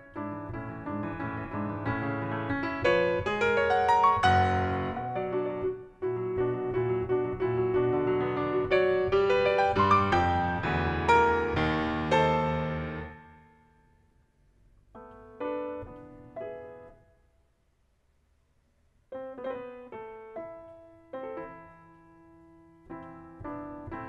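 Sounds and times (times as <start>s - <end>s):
grand piano playing: 0.0s - 13.8s, 15.0s - 17.1s, 19.1s - 24.0s.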